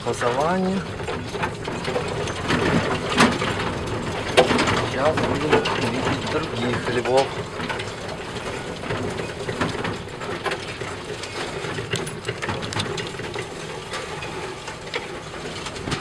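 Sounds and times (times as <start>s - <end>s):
utility vehicle motor running: 0.0s - 16.0s
vehicle body rattling and knocking: 0.0s - 16.0s.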